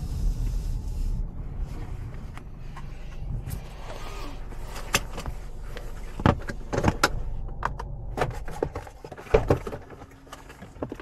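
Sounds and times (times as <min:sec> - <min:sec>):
low car cabin rumble: 0:00.0 - 0:11.0.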